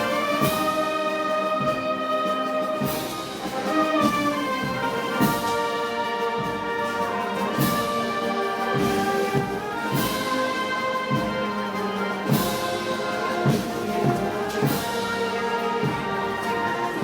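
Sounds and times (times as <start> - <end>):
brass band playing: 0.0 - 17.0
drum beat: 0.0 - 17.0.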